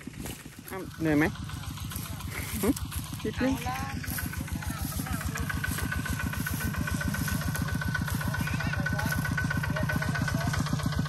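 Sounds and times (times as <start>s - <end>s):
tractor engine chugging: 0.0s - 11.0s.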